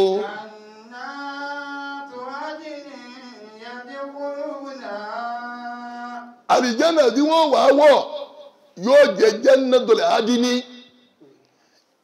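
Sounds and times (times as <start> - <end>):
man chanting recitation: 0.0 - 11.1.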